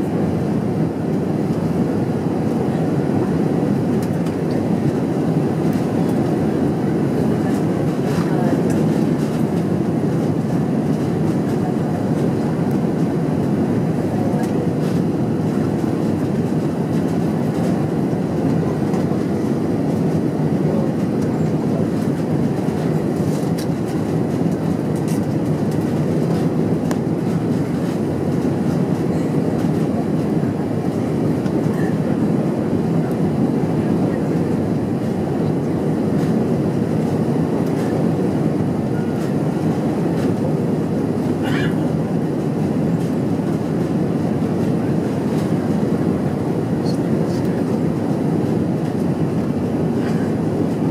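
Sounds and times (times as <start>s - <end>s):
airplane cabin rumble on runway: 0.0s - 50.9s.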